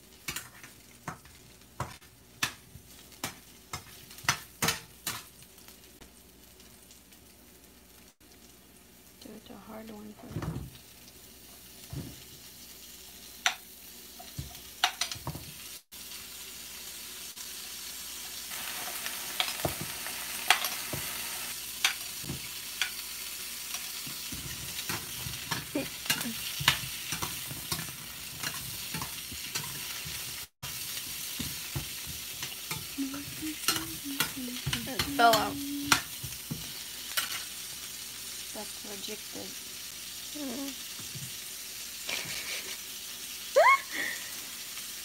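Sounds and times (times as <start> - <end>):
vegetables sizzling in a skillet: 0.0 - 45.0.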